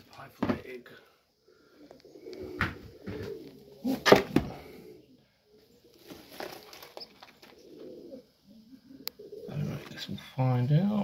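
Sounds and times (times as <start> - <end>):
pigeons cooing: 0.9 - 11.0.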